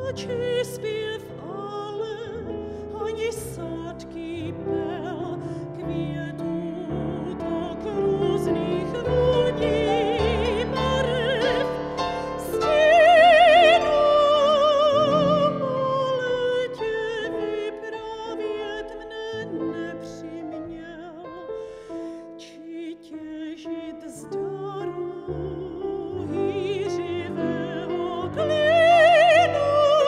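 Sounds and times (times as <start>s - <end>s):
grand piano accompaniment: 0.0s - 30.0s
operatic soprano singing: 0.0s - 30.0s.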